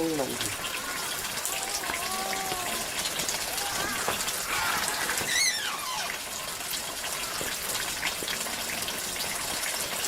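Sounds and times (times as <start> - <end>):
rushing water-like noise: 0.0 - 10.0.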